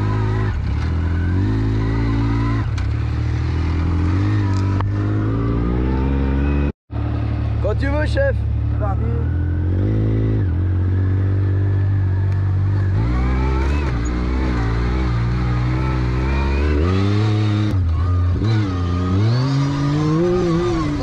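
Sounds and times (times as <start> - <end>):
buggy engine revving: 0.0 - 21.0.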